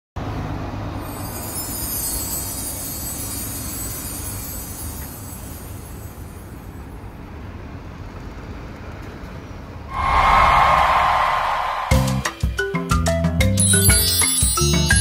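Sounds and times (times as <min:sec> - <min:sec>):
road traffic rumble: 0:00.2 - 0:12.5.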